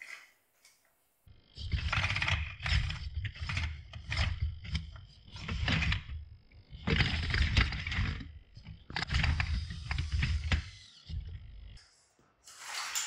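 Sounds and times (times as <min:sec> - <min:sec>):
steady low hum: 0:00.5 - 0:12.4.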